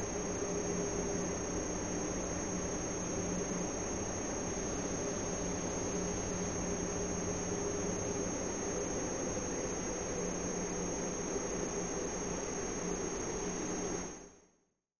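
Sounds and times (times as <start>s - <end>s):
electrical hum and hiss: 0.0s - 14.4s.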